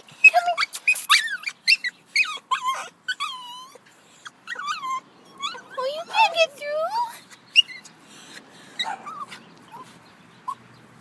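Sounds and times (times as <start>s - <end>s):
puppy whining: 0.2s - 10.6s.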